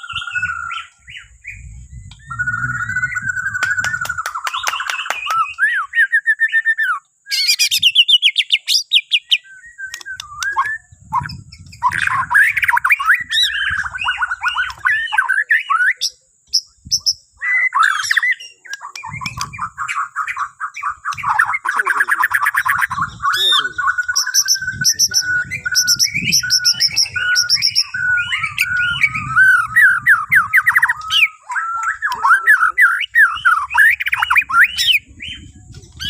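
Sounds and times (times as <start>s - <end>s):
bird singing whistled phrases: 0.0s - 36.0s.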